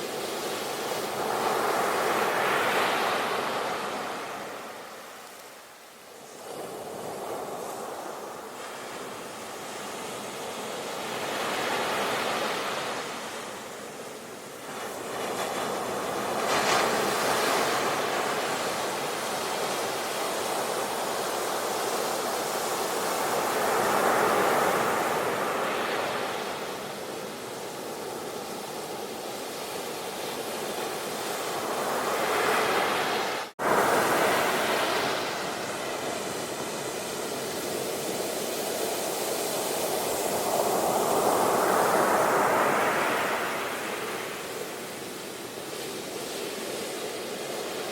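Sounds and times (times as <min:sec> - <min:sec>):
ocean waves washing onto shore: 0:00.0 - 0:47.9.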